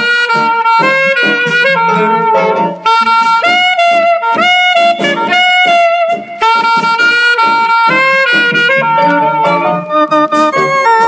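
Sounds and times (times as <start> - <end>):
band accompaniment: 0.0 - 11.0
saxophone melody: 0.0 - 11.0.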